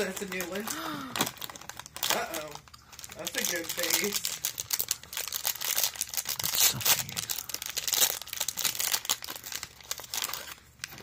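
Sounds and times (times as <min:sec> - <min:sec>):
plastic wrapper crackling: 0:00.0 - 0:11.0.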